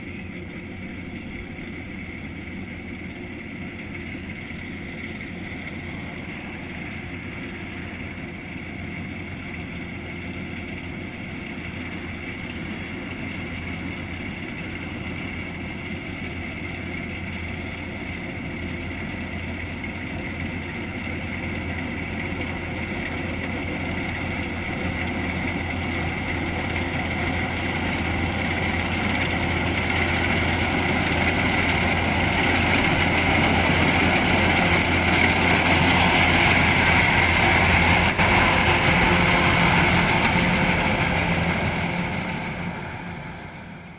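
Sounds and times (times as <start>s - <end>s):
combine harvester diesel engine: 0.0s - 43.9s
threshing machinery running: 3.3s - 43.9s.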